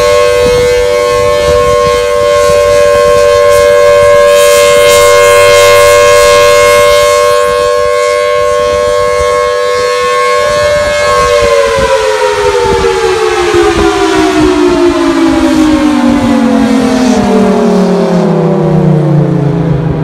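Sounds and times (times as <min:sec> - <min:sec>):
two-tone warning siren: 0:00.0 - 0:20.0.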